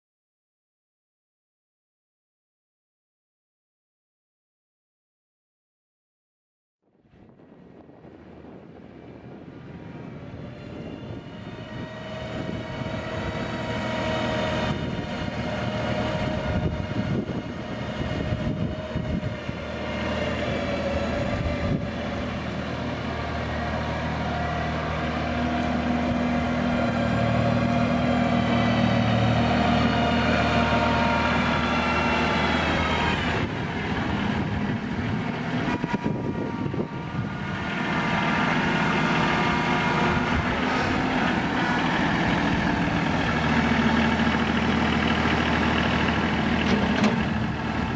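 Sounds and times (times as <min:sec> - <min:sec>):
tractor diesel engine running: 0:07.3 - 0:47.9.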